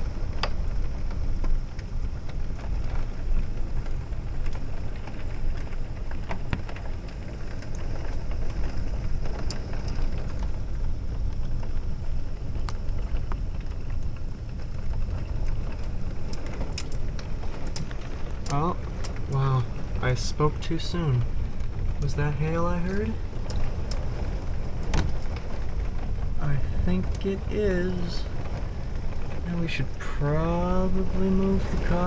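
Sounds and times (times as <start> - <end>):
heavy rain pouring: 0.0 - 32.0
low thunder rumble: 0.0 - 32.0.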